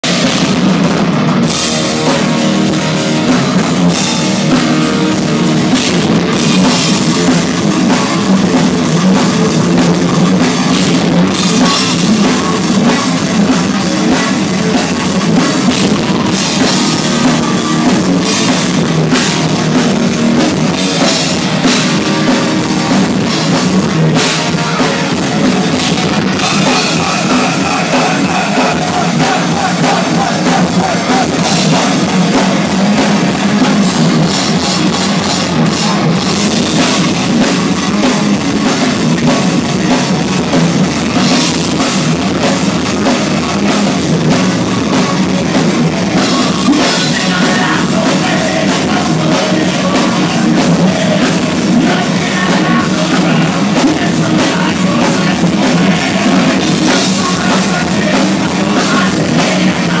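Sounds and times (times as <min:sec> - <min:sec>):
distorted electric guitars riffing: 0:00.0 - 1:00.0
drum kit: 0:00.0 - 1:00.0.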